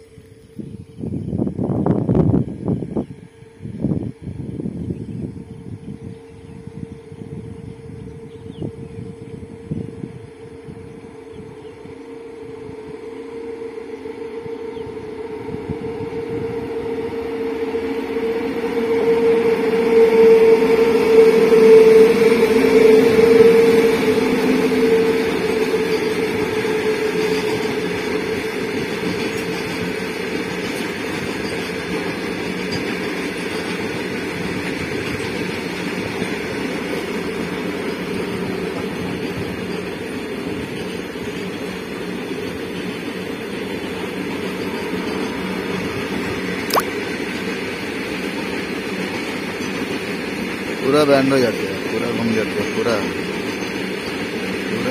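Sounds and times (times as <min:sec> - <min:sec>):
electric locomotives humming whine: 0:00.0 - 0:54.9.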